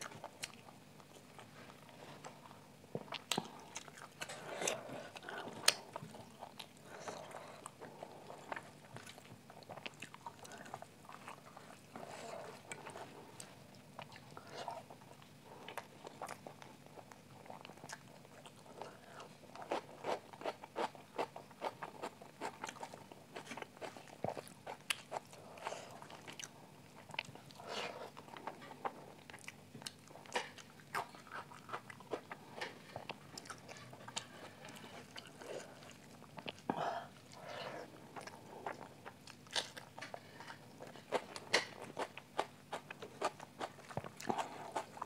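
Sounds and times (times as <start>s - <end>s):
chewing: 0.0s - 45.0s.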